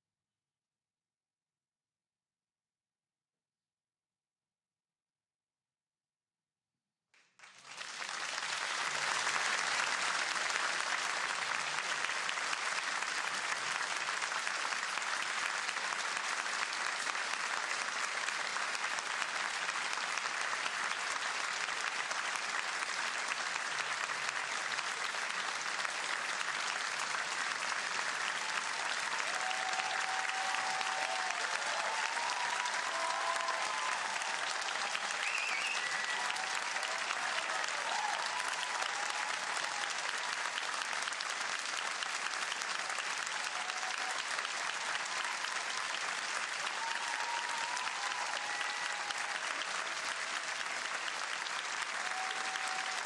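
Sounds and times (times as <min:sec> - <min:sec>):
audience applauding: 0:07.4 - 0:53.0.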